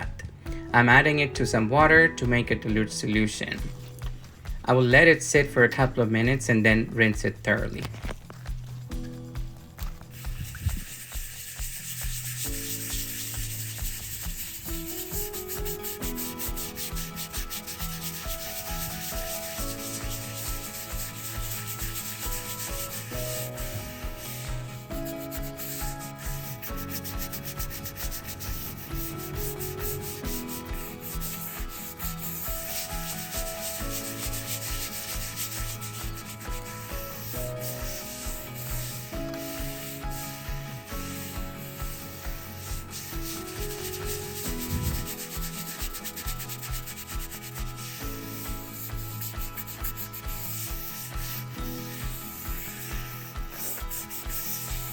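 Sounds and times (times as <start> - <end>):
background melody: 0.0 - 54.9
brush scrubbing concrete: 0.8 - 54.9.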